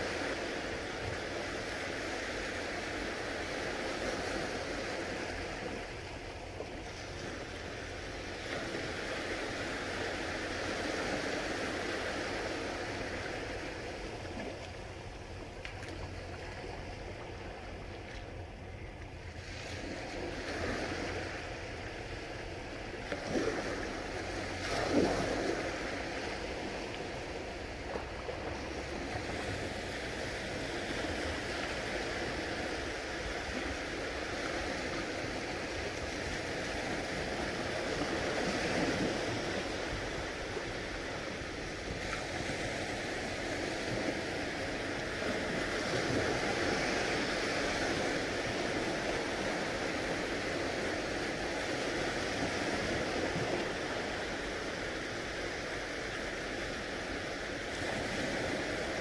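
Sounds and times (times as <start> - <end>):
waves lapping on shore: 0.0 - 59.0
water splashes: 5.0 - 57.1.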